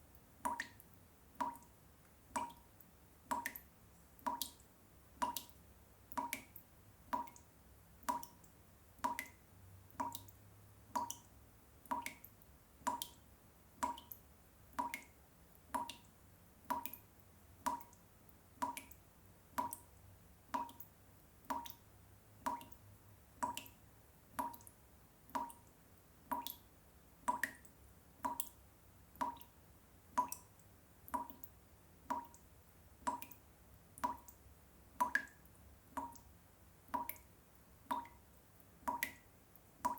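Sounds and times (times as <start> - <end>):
water dripping: 0.0 - 39.9.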